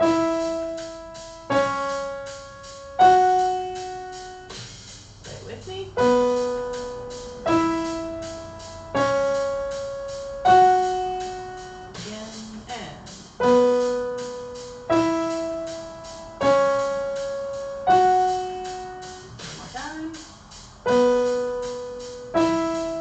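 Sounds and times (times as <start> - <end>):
slow piano notes in octaves: 0.0 - 4.8, 5.7 - 19.5, 20.1 - 23.0.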